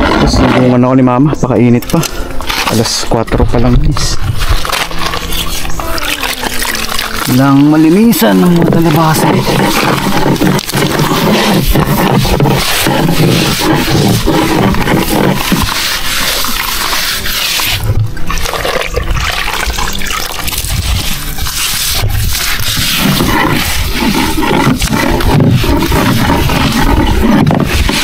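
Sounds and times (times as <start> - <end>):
metal blade scraping boat hull: 0.0 - 1.2, 2.0 - 18.5, 20.4 - 28.0.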